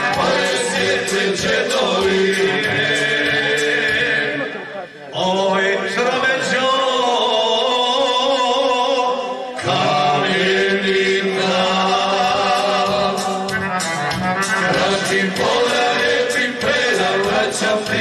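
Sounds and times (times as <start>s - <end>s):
men singing in harmony: 0.0s - 13.7s, 14.5s - 18.0s.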